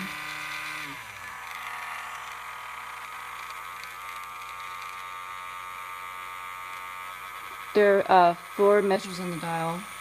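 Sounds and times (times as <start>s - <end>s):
cordless grinder motor whine: 0.0s - 10.0s.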